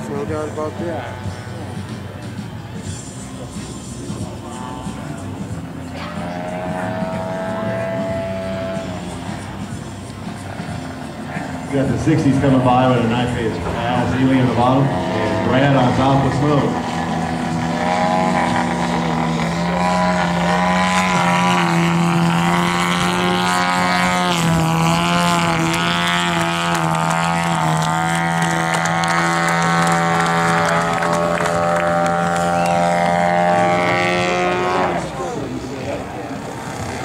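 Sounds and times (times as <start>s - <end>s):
model airplane engine and propeller: 0.0s - 37.0s.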